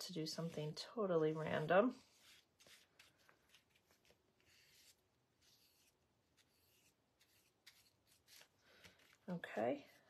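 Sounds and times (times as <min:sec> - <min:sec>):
paintbrush rubbing on paper: 0:00.0 - 0:10.0.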